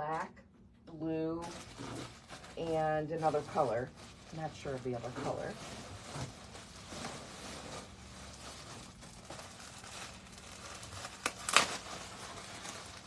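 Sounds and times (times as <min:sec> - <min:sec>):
packaging crinkling and rustling: 0:01.2 - 0:13.0.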